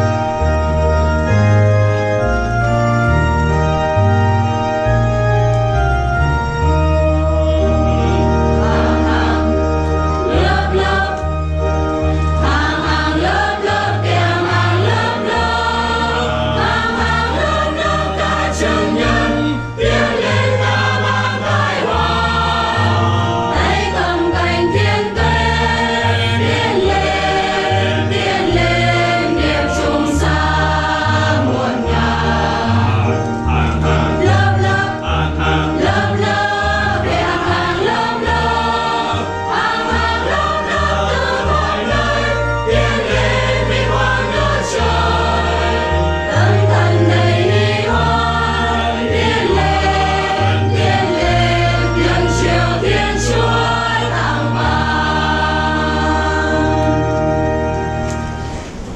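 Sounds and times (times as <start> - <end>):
church choir singing a hymn: 0.0 - 58.9
organ accompaniment: 0.0 - 58.9.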